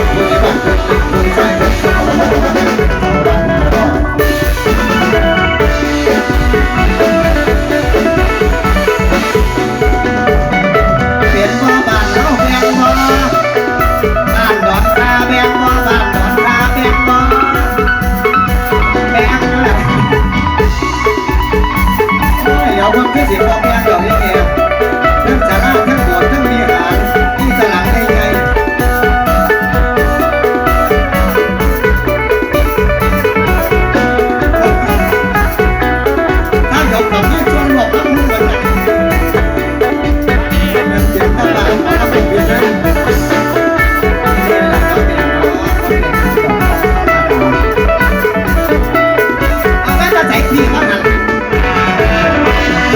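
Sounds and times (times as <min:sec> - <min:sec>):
drum kit beat: 0:00.0 - 0:52.9
folk band music: 0:00.0 - 0:52.9
plucked string melody: 0:00.0 - 0:52.9.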